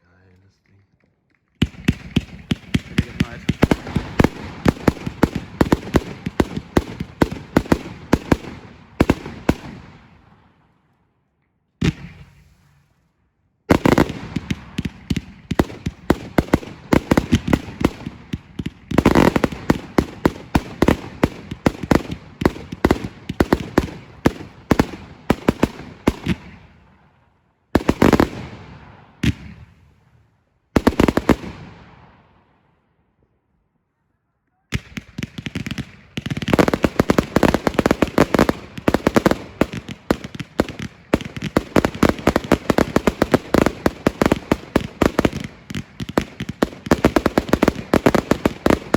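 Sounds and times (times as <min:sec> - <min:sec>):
fireworks bangs and crackles: 0:01.6 - 0:10.7, 0:11.8 - 0:13.0, 0:13.6 - 0:32.6, 0:34.7 - 0:48.9.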